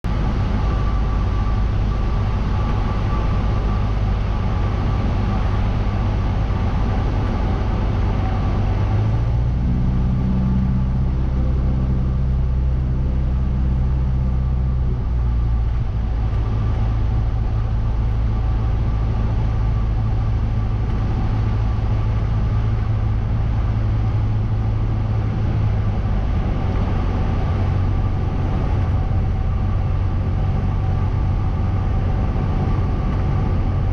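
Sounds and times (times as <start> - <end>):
airplane engine droning: 0.0 - 33.9.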